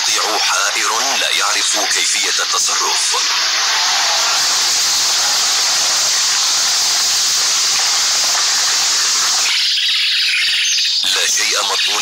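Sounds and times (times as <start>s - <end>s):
loud rushing hiss: 0.0s - 10.3s.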